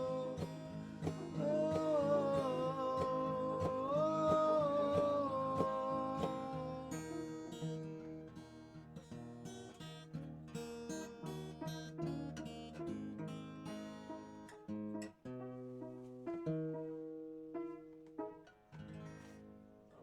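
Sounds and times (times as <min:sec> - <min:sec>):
acoustic guitar strummed and picked: 0:00.0 - 0:20.0.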